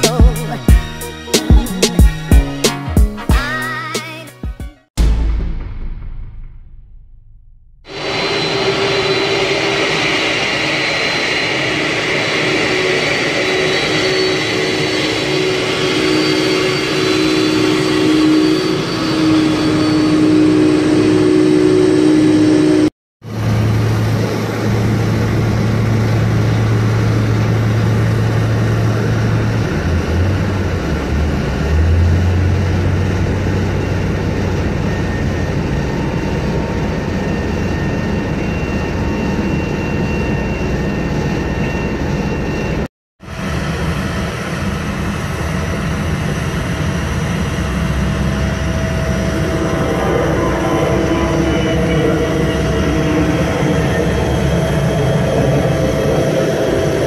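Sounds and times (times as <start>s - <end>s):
jet engines whining: 0.0s - 4.4s, 7.9s - 57.0s
tow tug engine droning: 7.9s - 57.0s.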